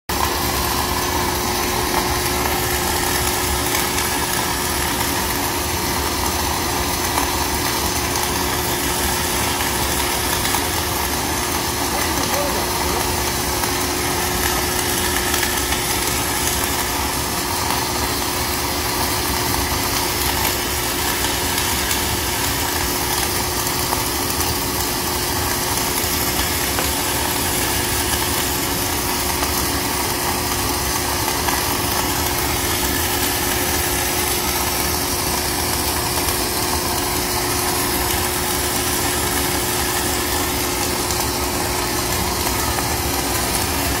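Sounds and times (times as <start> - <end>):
welding arc crackling hiss: 0.1 - 44.0
welding hum: 0.1 - 44.0.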